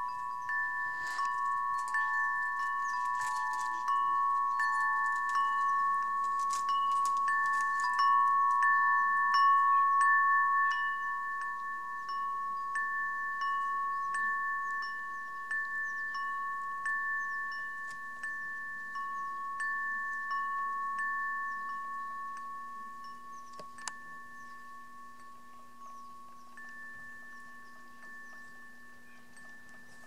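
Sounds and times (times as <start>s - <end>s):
chimes ringing: 0.0s - 30.0s.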